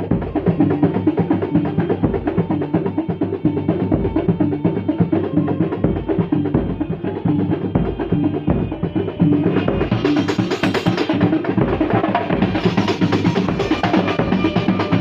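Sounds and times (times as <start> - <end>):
fast percussion ensemble drumming: 0.0 - 15.0.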